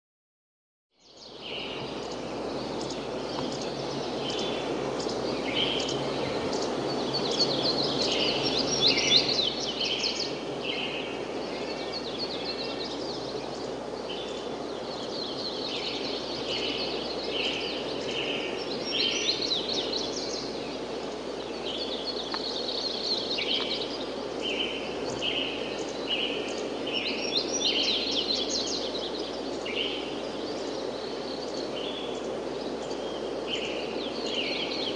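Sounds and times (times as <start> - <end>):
wind: 0.9 - 34.9
songbirds chirping and trilling: 1.0 - 34.9.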